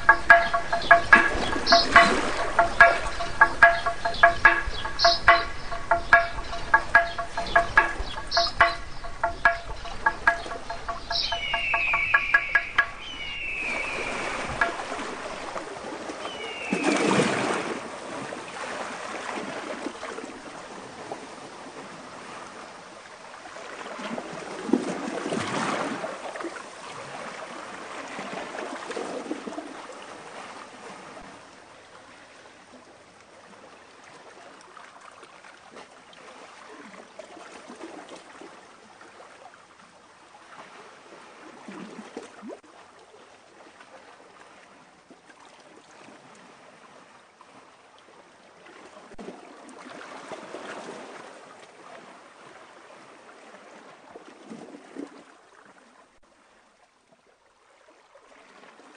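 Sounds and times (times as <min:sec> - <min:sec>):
moving water: 0:00.0 - 0:58.9.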